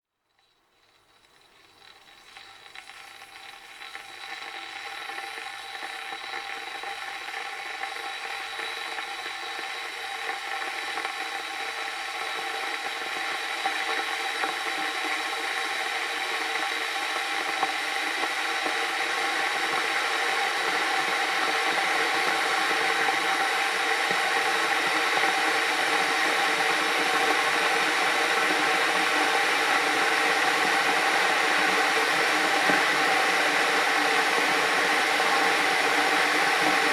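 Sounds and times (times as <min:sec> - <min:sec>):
electric kettle heating water: 0:00.4 - 0:36.9.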